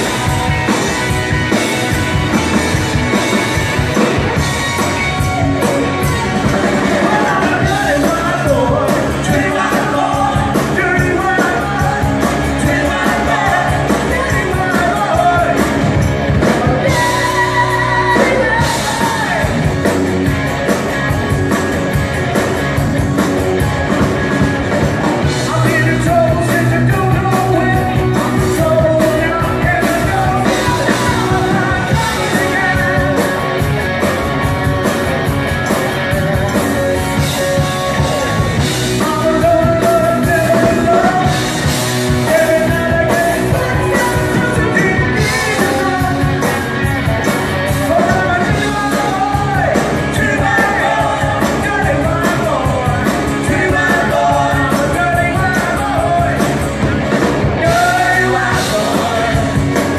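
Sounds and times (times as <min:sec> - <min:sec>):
lead singer singing: 0:00.0 - 0:20.0, 0:24.3 - 0:34.9, 0:35.6 - 0:59.9
live rock band playing: 0:00.0 - 0:59.9.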